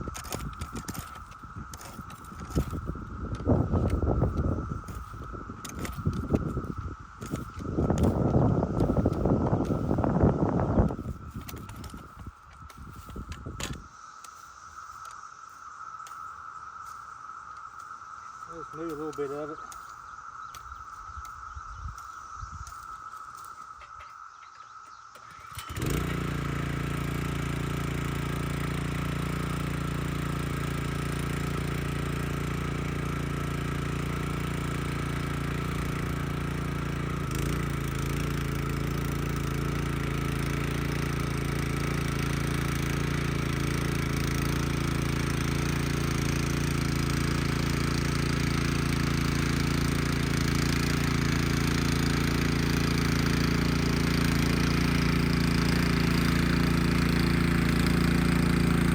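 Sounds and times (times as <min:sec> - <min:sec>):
small gasoline engine running: 0:00.0 - 0:14.4, 0:17.7 - 0:20.9, 0:24.8 - 0:58.9.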